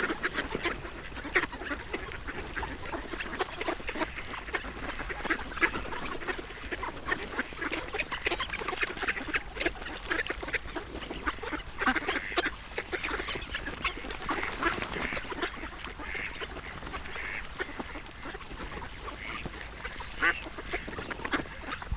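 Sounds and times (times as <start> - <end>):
ducks quacking: 0.0 - 21.9.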